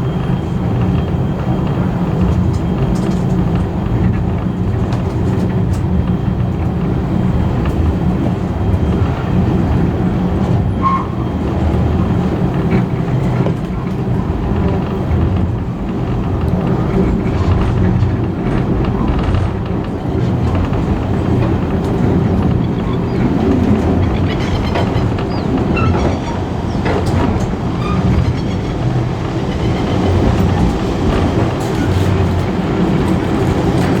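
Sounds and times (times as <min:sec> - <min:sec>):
train carriage rumbling on rails: 0:00.0 - 0:34.0.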